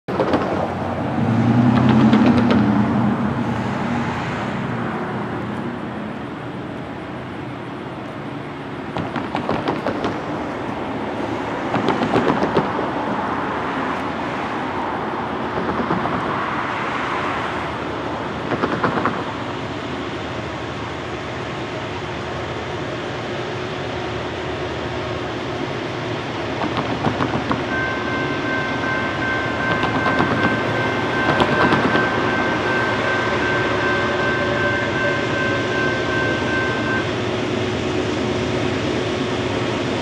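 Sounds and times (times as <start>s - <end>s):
freight train rumbling: 0.1s - 40.0s
low drone: 0.1s - 40.0s.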